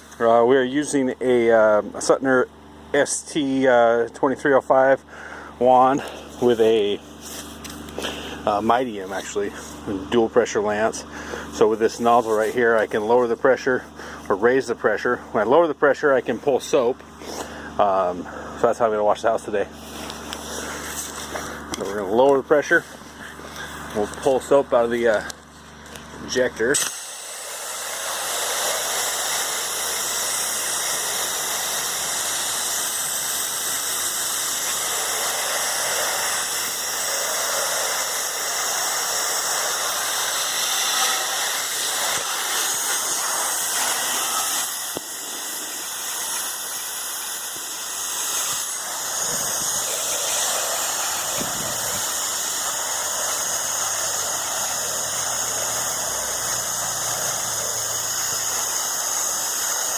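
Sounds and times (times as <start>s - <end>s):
pressure washer hissing spray: 0.0s - 1.1s, 5.2s - 14.7s, 16.6s - 59.9s
engine running: 0.0s - 59.9s.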